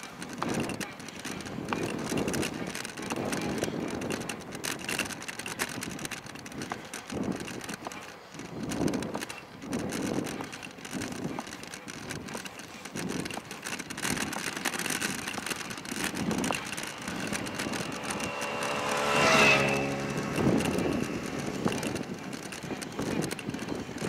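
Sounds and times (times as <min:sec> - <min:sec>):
scooter wheels humming on asphalt: 0:00.0 - 0:24.0
soft scooter push: 0:00.0 - 0:24.0
wind on microphone: 0:00.0 - 0:24.0
passing motor vehicle hum: 0:00.4 - 0:24.0.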